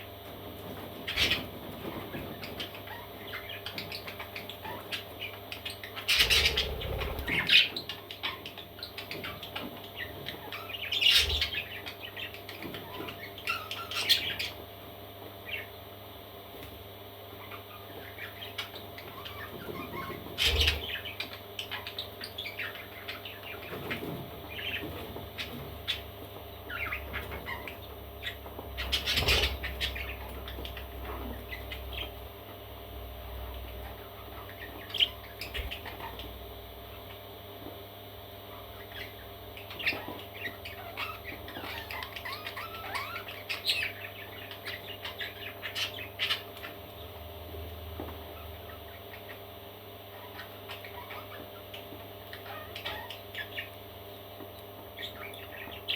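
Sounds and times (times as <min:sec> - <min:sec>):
parrot chicks chirping: 0:00.0 - 0:55.9.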